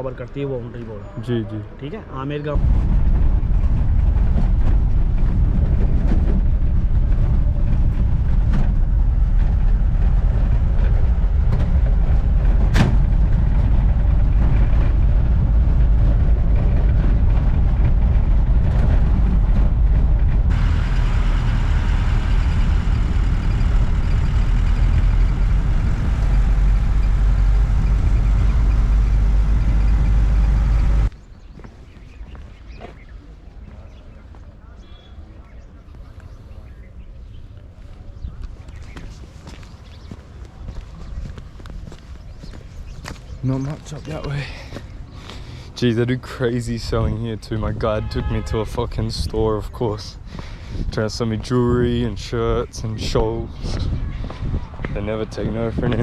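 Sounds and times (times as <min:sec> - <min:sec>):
vehicle interior rumble: 0:02.4 - 0:33.1, 0:35.6 - 0:56.0.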